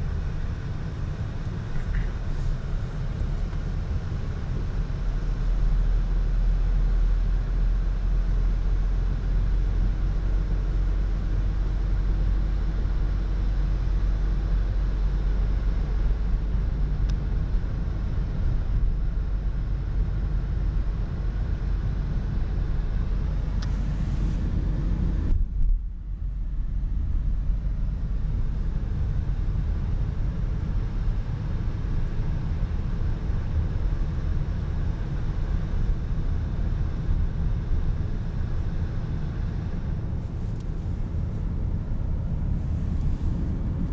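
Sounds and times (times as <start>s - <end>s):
tyres on wet slushy road: 0.0s - 19.0s, 19.8s - 25.3s, 26.6s - 43.9s
car engine rumble: 0.0s - 43.9s.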